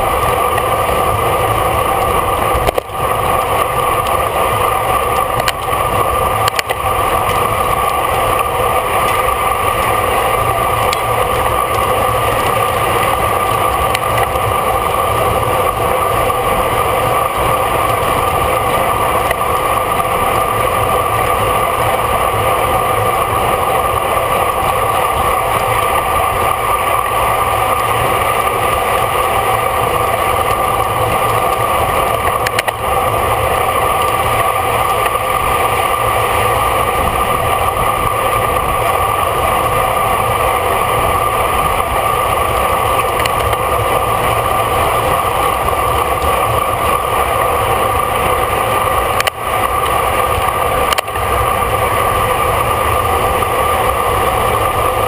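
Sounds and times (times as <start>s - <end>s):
constant hum: 0.0s - 55.0s
wind and road noise: 0.0s - 55.0s.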